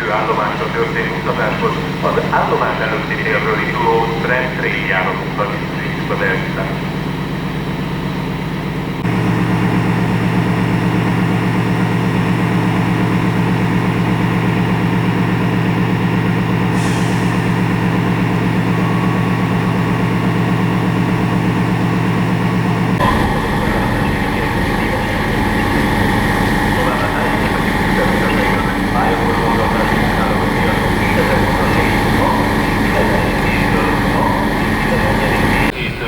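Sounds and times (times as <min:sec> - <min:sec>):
locomotive low hum: 0:00.0 - 0:36.0.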